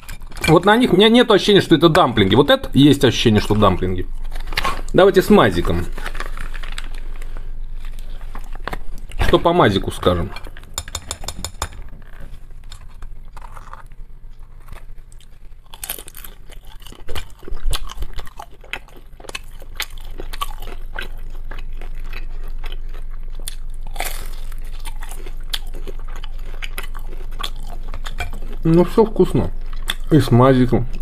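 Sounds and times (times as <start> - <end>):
crunching of fried dumplings: 3.5 - 10.6, 11.9 - 31.0.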